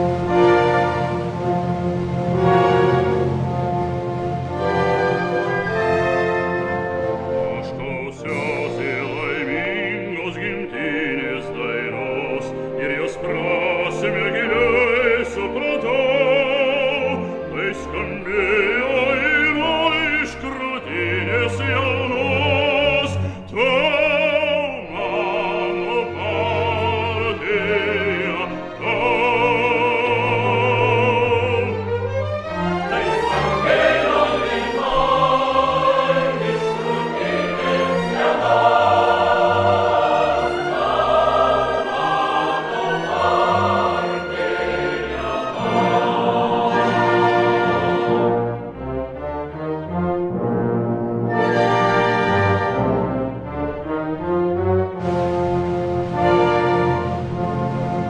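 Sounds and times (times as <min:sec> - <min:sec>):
operatic singing with vibrato: 0:00.0 - 0:49.2
orchestral accompaniment: 0:00.0 - 0:58.0.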